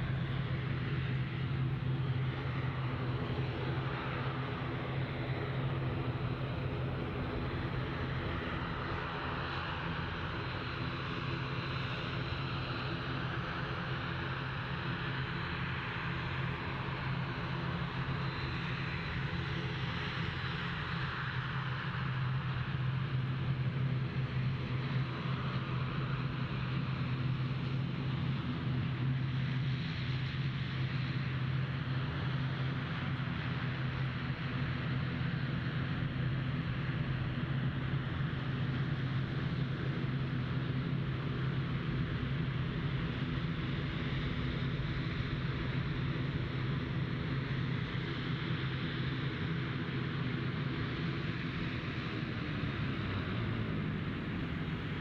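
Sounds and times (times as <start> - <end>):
turboprop propeller drone: 0.0 - 55.0.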